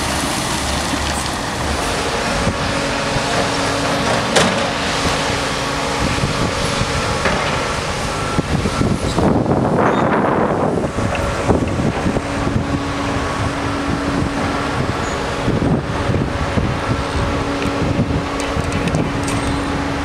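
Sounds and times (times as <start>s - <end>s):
heavy construction machinery running: 0.0s - 20.0s
street traffic: 0.0s - 20.0s
wind buffeting microphone: 0.0s - 20.0s.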